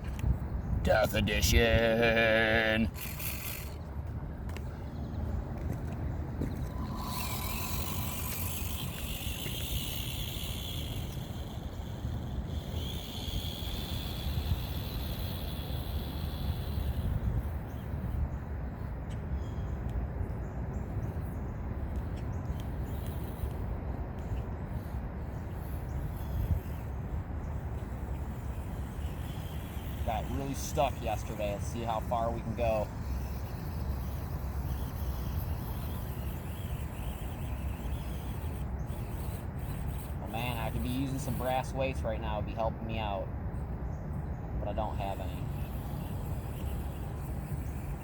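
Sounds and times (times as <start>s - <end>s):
low rumble of wind: 0.0s - 48.0s
small electric motor whining: 1.0s - 4.6s, 5.4s - 18.9s, 21.8s - 43.2s, 44.7s - 48.0s.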